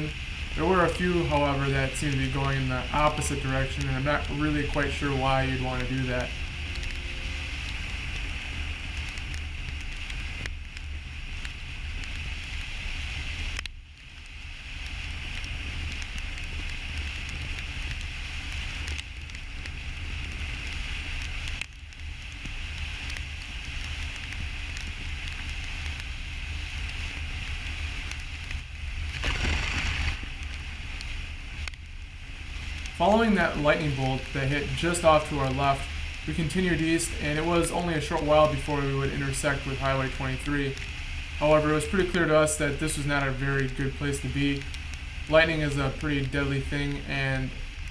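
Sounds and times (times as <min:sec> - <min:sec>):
car road and wind noise: 0:00.0 - 0:39.1.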